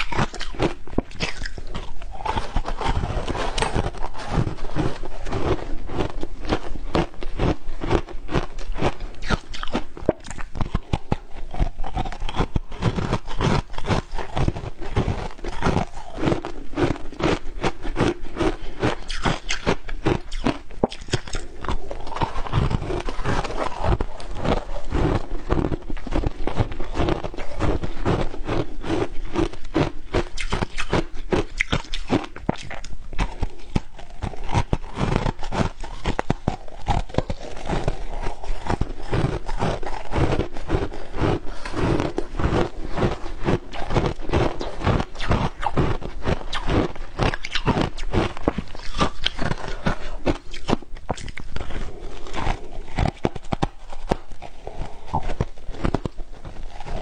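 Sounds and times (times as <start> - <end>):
crunching ice being chewed: 0.0 - 57.0.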